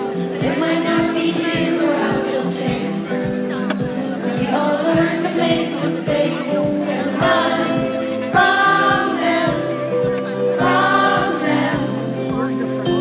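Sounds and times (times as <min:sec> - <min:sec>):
woman singing: 0:00.0 - 0:12.7
strummed acoustic guitars: 0:00.0 - 0:13.0.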